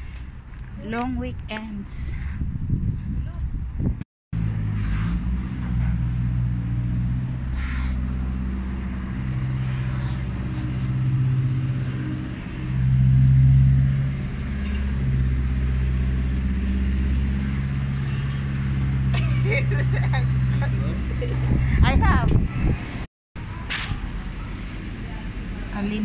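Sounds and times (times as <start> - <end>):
engine humming: 3.8 - 26.0.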